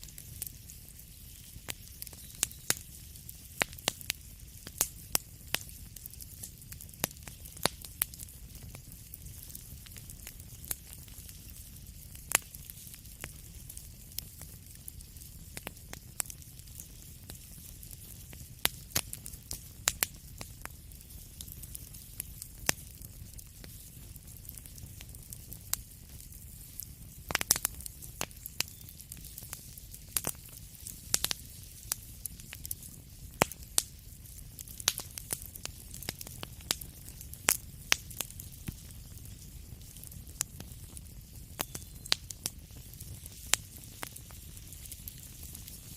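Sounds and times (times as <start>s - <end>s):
wood fire crackling: 0.0s - 45.9s
sharp pops of fire: 0.1s - 45.9s.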